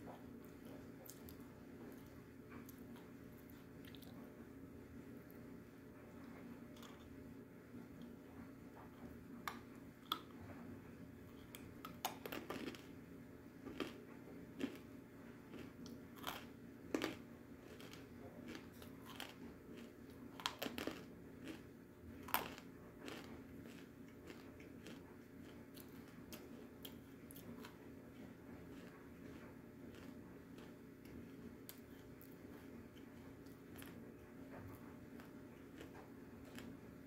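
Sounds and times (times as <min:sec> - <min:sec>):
clay being chewed with crunches: 0:00.1 - 0:04.4, 0:06.1 - 0:07.2, 0:08.8 - 0:10.6, 0:11.3 - 0:13.0, 0:13.6 - 0:37.0.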